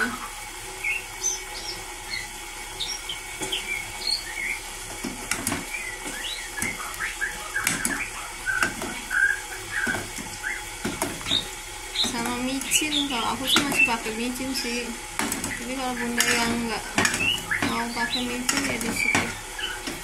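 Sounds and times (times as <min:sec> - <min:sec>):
small birds chirping: 0:00.0 - 0:04.7, 0:05.3 - 0:20.0.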